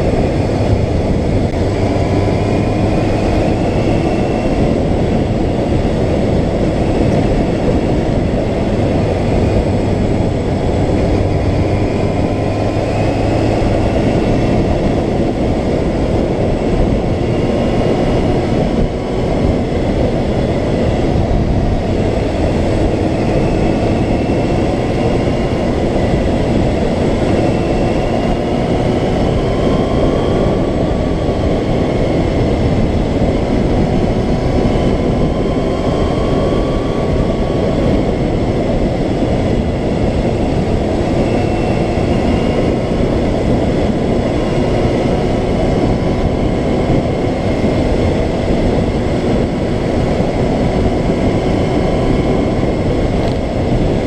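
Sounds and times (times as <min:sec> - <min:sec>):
heavy wind rush: 0:00.0 - 0:54.0
motorcycle engine whine: 0:00.0 - 0:54.0.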